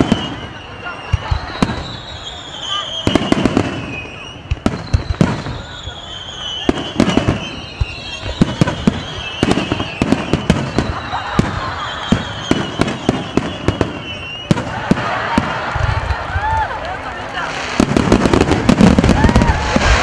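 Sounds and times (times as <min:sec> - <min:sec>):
fireworks launching and bursting: 0:00.0 - 0:20.0.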